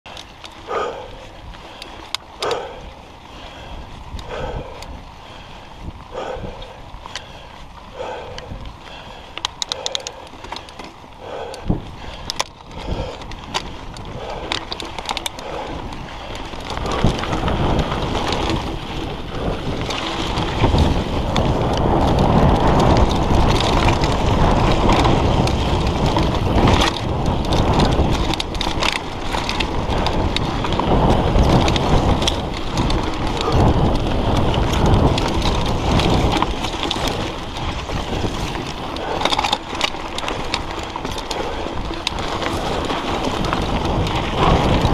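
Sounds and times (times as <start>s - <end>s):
bike frame and chain rattling: 0.0s - 44.9s
bike tyres crunching over dirt: 0.1s - 44.9s
wind buffeting microphone: 0.1s - 44.9s.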